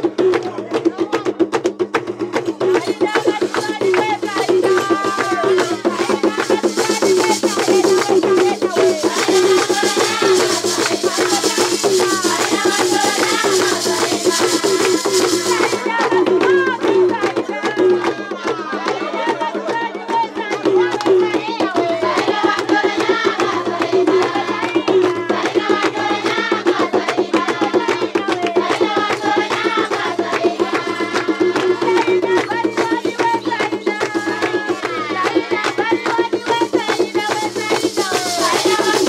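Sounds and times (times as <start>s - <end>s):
wooden hand drums beating: 0.0s - 39.0s
rattle shaking: 2.4s - 16.9s, 21.3s - 39.0s
group singing: 2.6s - 39.0s.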